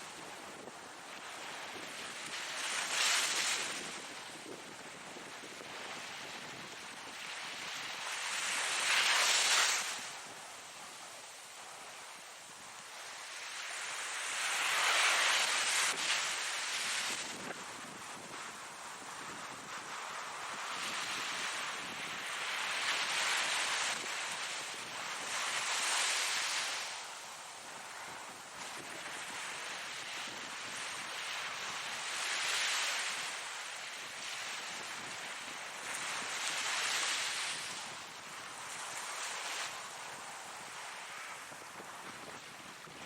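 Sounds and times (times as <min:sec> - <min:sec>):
ocean waves breaking on shore: 0:00.0 - 0:43.0.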